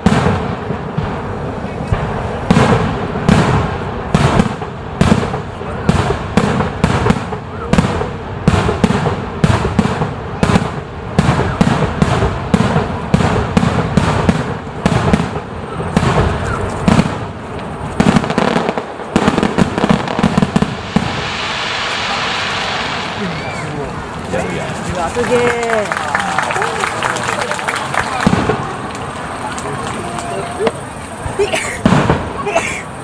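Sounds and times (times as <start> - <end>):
fireworks shells bursting: 0.0 - 33.0
steady hiss: 0.3 - 33.0.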